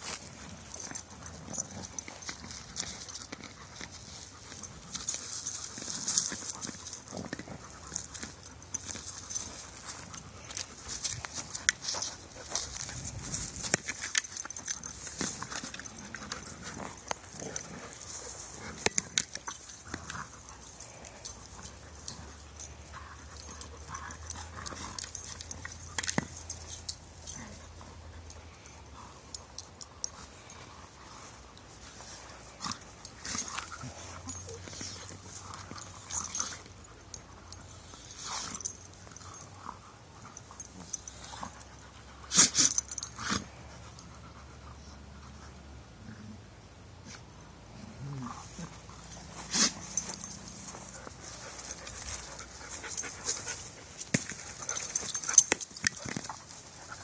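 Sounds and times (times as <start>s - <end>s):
dogs scuffling in grass and leaves: 0.0s - 43.8s, 47.7s - 57.0s.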